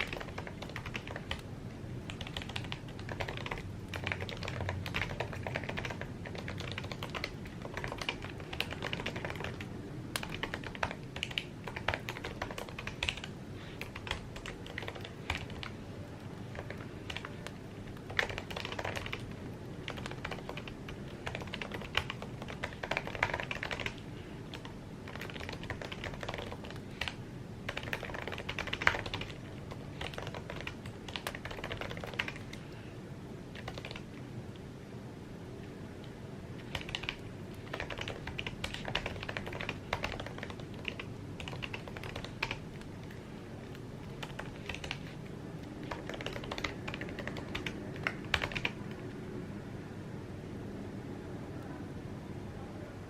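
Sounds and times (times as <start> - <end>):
keyboard typing clicks: 0.0 - 1.5, 2.1 - 32.6, 33.6 - 34.2, 36.6 - 49.1
low background noise: 0.0 - 53.0.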